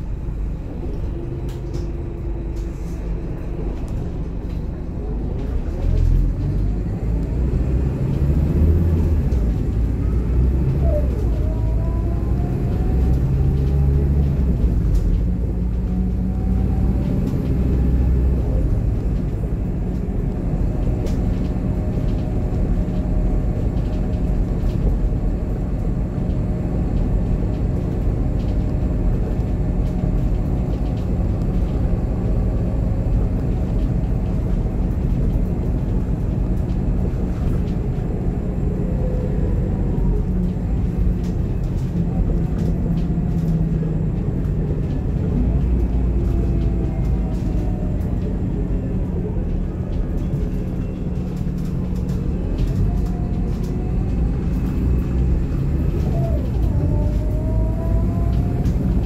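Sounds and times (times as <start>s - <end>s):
diesel engine drone: 0.0s - 59.0s
road rumble: 0.0s - 59.0s.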